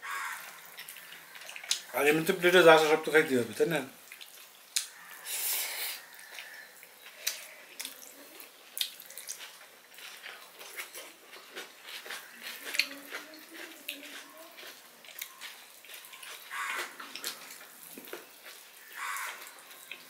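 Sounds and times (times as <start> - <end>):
wet chewing: 0.3 - 2.9, 4.0 - 20.0.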